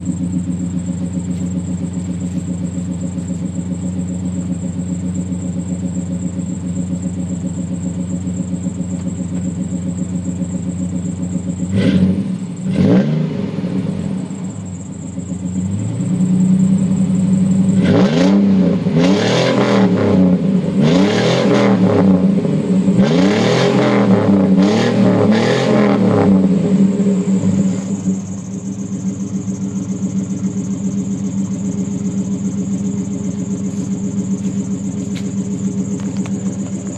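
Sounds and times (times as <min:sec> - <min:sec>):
truck engine idling and revving: 0:00.0 - 0:36.9.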